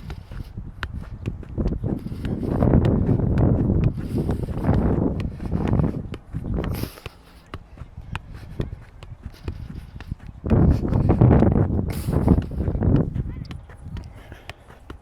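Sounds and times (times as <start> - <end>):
wind on microphone: 0.0 - 7.1, 7.7 - 15.0
football tapped off foot: 0.0 - 15.0.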